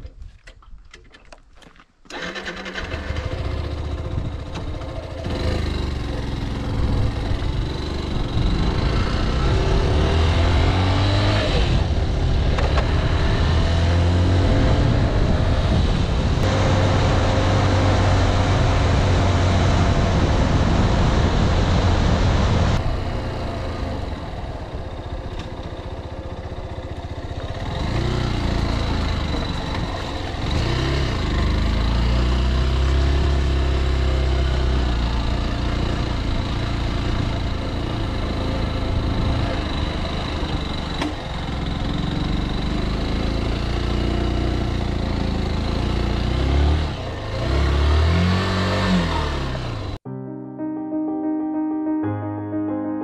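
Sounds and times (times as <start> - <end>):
motorcycle engine running: 2.1 - 50.0.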